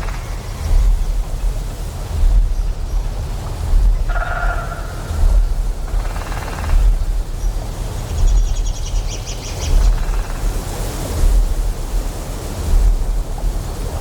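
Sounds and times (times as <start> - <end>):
deep generator hum: 0.0 - 14.0
flowing water: 0.0 - 14.0
insects chirping: 0.0 - 14.0.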